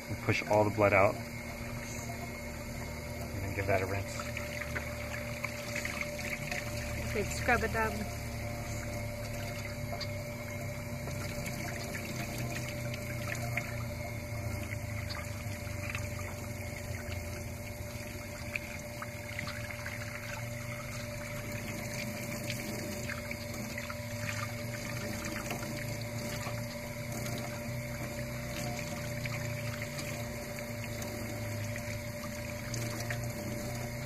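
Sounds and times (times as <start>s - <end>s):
low steady hum: 0.0s - 34.0s
running water rinsing fish: 0.0s - 34.0s
small ticks of scrubbing: 0.2s - 34.0s.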